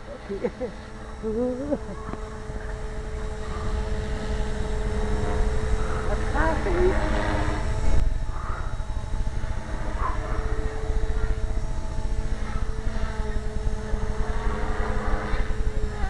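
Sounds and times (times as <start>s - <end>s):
rc helicopter whine: 0.0s - 16.0s.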